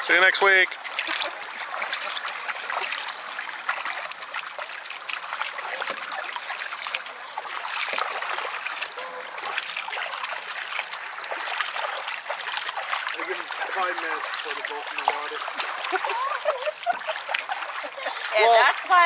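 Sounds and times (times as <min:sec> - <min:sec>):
paddle splashes and drips: 0:00.0 - 0:19.0
water splashing and trickling: 0:00.0 - 0:19.0.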